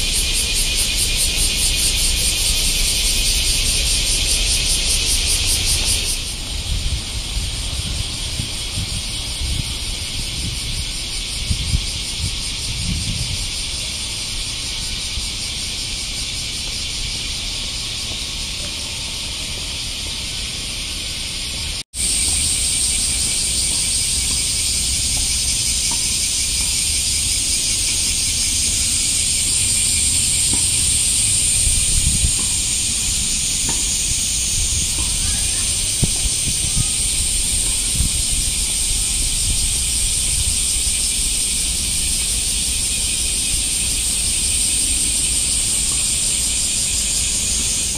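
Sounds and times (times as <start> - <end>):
cicadas buzzing: 0.0 - 47.9.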